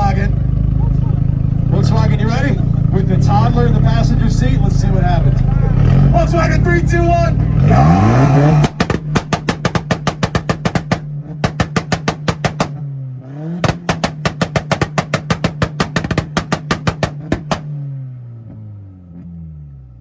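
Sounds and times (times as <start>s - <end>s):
exhaust popping and banging: 0.0s - 18.0s
engine held at high revs: 0.0s - 18.7s.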